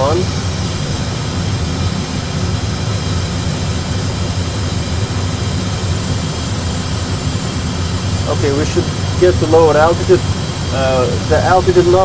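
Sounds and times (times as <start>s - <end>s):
cockpit rumble and hiss: 0.0s - 12.0s.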